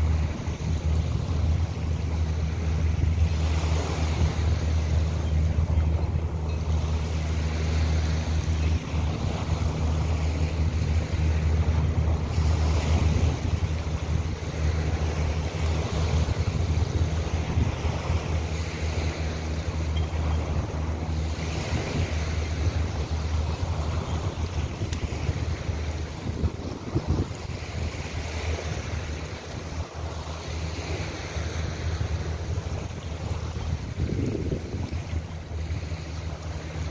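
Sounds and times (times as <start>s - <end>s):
sea washing along shore: 0.0s - 36.9s
wind buffeting microphone: 0.0s - 36.9s.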